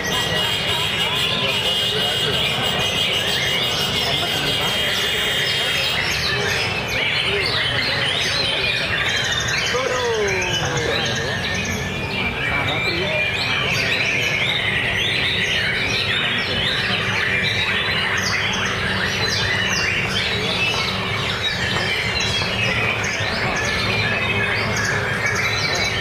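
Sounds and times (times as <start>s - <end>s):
many songbirds singing: 0.0s - 26.0s.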